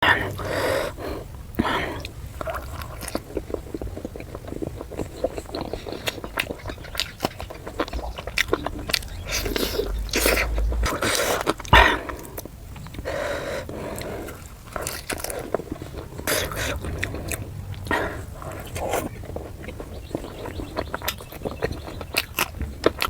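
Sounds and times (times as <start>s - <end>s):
chewing and biting: 0.0s - 23.0s.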